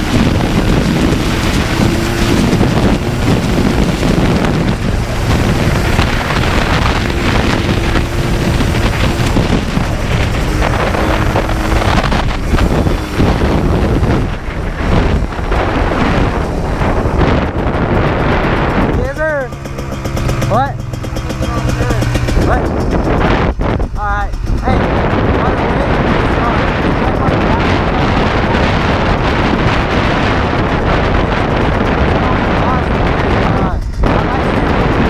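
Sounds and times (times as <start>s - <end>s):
two-stroke engine running: 0.0s - 35.0s
wind buffeting microphone: 0.0s - 35.0s.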